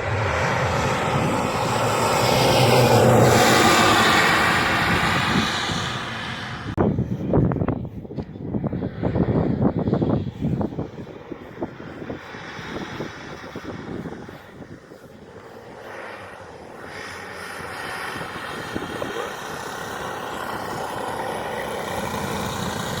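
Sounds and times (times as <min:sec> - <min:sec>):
model plane propeller drone: 0:00.0 - 0:23.0.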